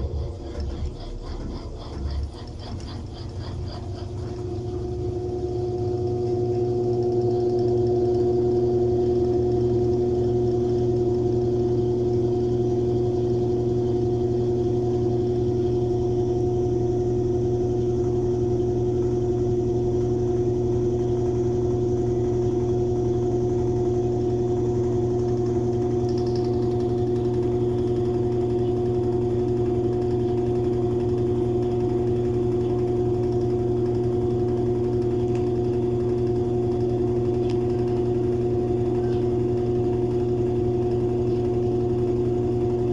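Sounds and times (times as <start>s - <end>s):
washing machine drum spinning: 0.0s - 42.9s.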